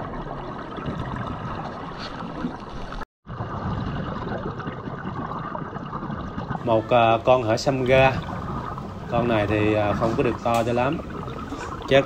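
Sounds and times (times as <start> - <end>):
diver's air bubbles: 0.0 - 12.0
underwater water rushing: 0.0 - 12.0.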